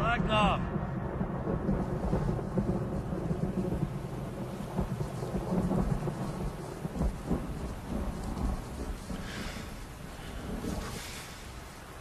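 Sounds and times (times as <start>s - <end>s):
low thunder-like rumble: 0.0s - 12.0s
rain-like hiss: 0.0s - 12.0s.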